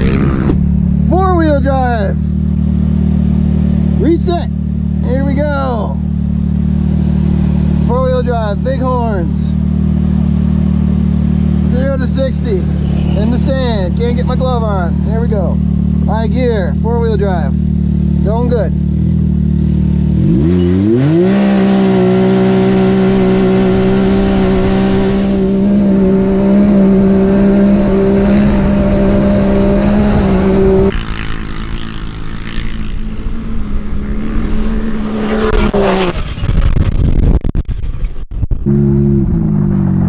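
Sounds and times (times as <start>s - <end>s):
engine revving at full throttle: 0.0s - 0.7s, 2.3s - 36.3s.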